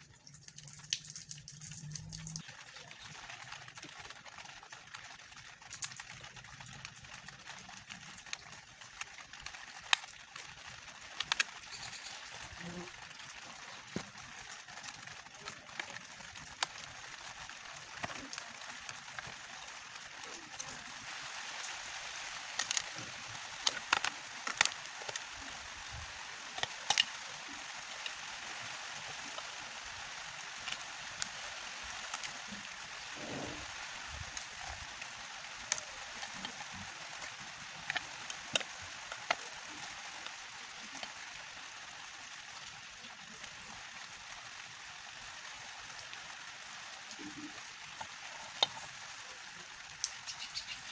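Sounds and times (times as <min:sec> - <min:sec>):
steady hiss: 0:08.3 - 0:50.9.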